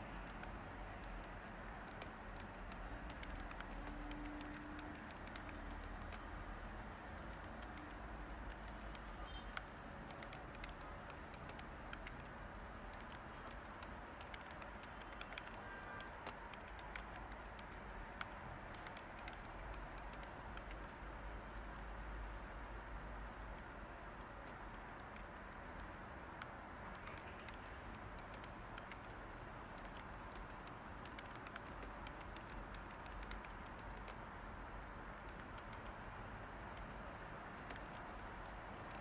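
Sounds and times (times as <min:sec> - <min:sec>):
white noise hiss: 0:00.0 - 0:39.0
typing on computer keyboard: 0:00.2 - 0:06.3, 0:07.2 - 0:21.0, 0:23.6 - 0:34.2, 0:35.2 - 0:36.0, 0:37.5 - 0:39.0.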